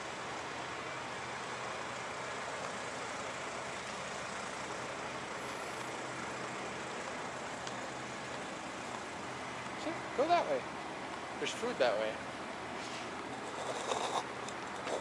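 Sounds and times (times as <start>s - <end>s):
idling truck machinery hum: 0.0s - 15.0s.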